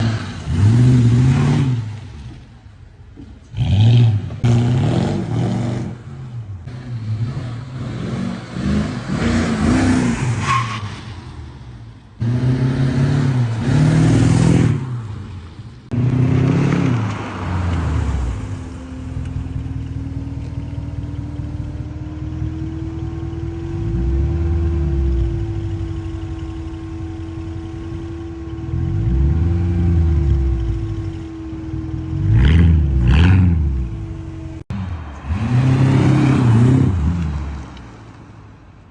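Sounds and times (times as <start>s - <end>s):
car engine revving and idling: 0.0s - 10.4s, 11.5s - 38.9s.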